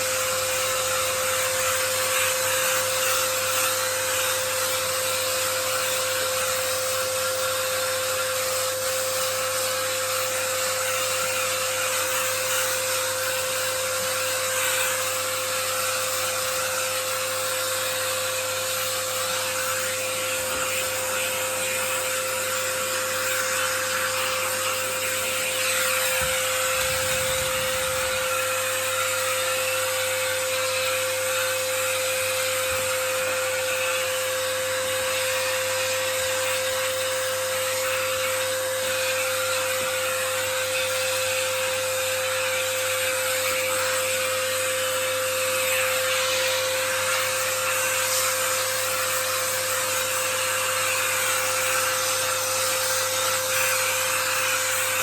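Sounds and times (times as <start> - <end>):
vacuum cleaner whine: 0.0 - 55.0.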